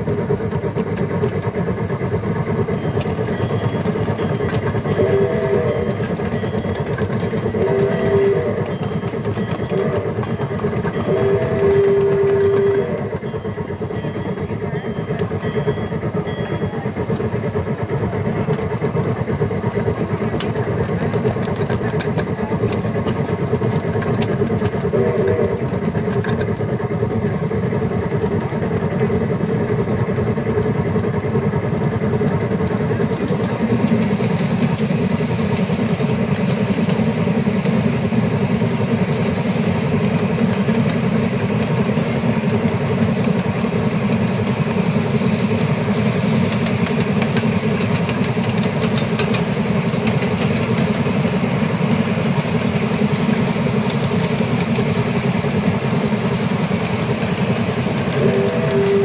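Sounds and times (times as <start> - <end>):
miniature train rumbling on rails: 0.0 - 59.0.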